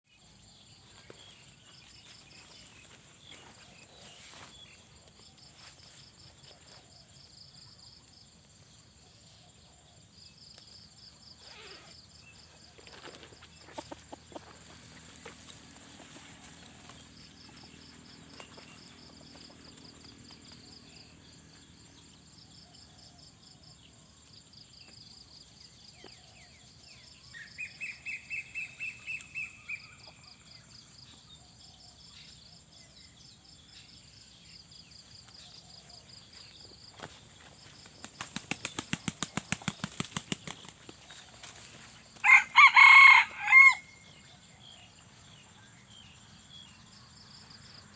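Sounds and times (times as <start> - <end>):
insects chirping: 0.1 - 47.9.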